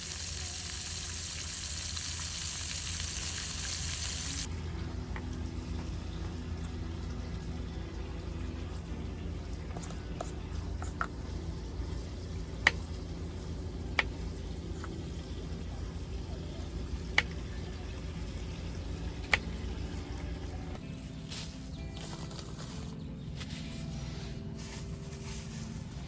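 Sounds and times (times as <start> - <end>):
low steady hum: 4.3 - 26.0.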